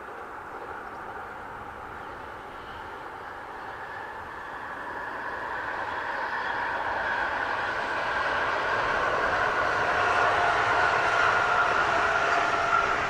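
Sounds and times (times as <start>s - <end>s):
electric train running past: 0.0s - 13.0s
train whine: 0.0s - 13.0s.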